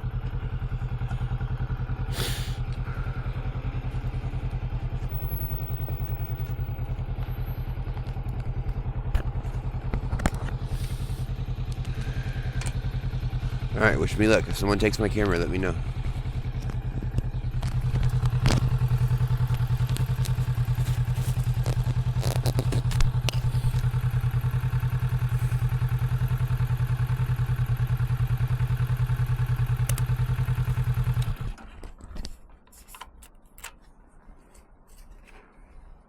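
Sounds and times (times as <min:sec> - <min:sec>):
motorcycle engine idling: 0:00.0 - 0:32.6.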